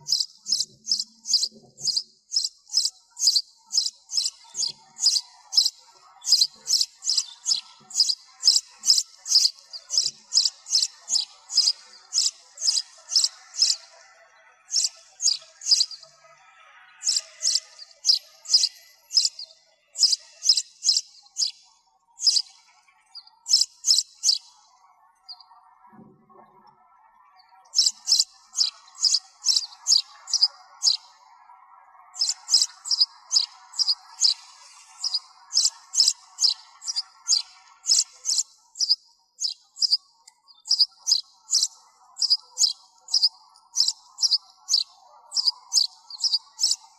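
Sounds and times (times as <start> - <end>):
sparrows chirping: 0.0 - 26.0, 27.2 - 46.9.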